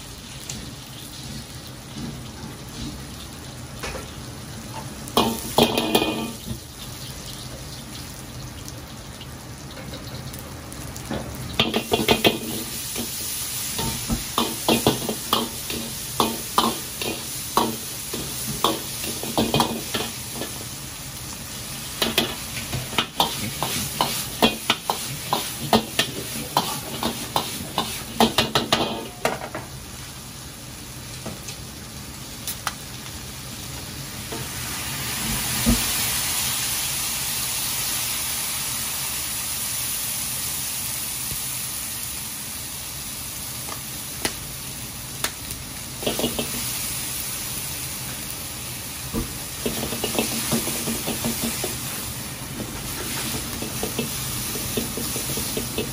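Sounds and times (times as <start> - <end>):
oil sizzling in a wok: 0.0 - 55.9.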